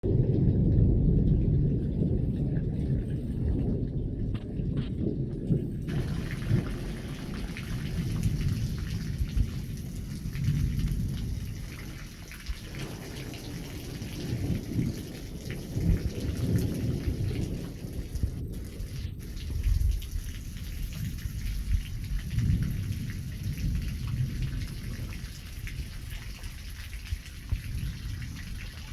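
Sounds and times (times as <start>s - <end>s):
thunder rumbling: 0.0s - 28.9s
rain falling: 0.1s - 28.9s.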